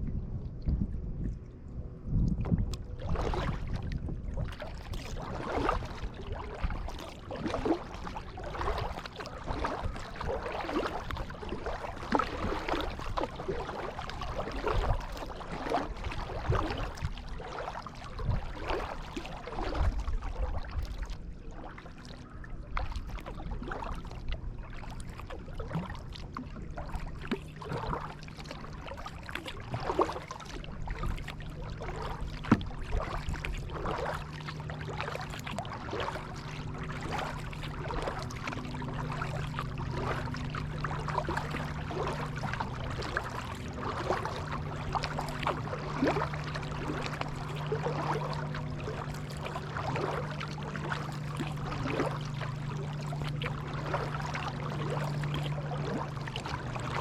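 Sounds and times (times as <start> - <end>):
kayak paddle dipping in water: 0.0 - 57.0
steady low rumble: 0.0 - 57.0
water splashes and drips: 2.2 - 57.0.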